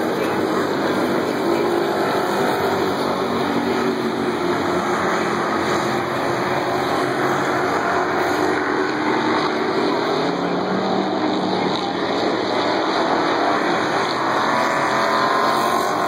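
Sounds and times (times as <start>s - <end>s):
race car engines roaring past: 0.0s - 16.0s.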